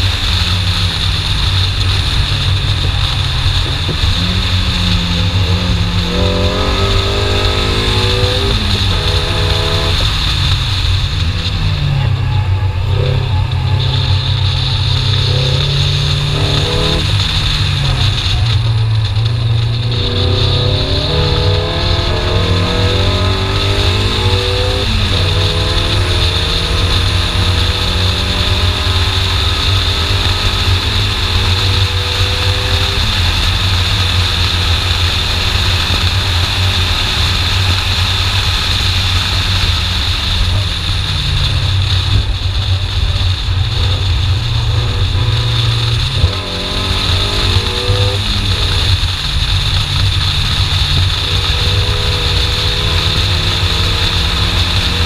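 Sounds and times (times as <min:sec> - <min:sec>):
car engine revving hard: 0:00.0 - 0:55.0
gear upshift: 0:01.3 - 0:37.7, 0:40.1 - 0:55.0.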